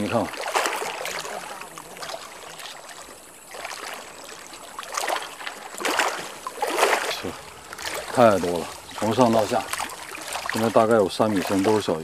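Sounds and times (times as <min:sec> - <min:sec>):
fish splashing at water surface: 0:00.0 - 0:12.0.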